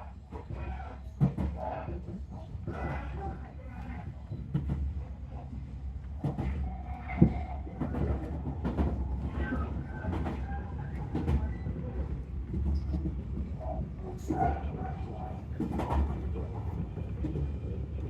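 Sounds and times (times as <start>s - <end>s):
train interior rumble: 0.0s - 18.0s.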